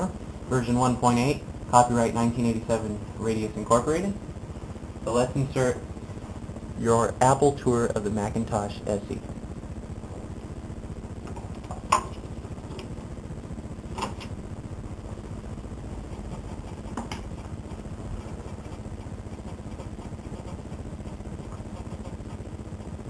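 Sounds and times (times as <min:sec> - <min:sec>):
computer hum: 0:00.0 - 0:23.0.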